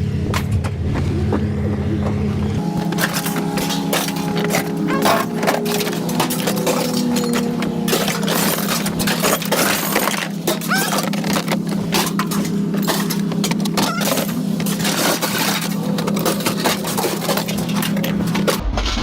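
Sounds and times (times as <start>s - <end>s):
engine hum: 0.0s - 18.6s
scrap metal clanking: 2.6s - 18.6s.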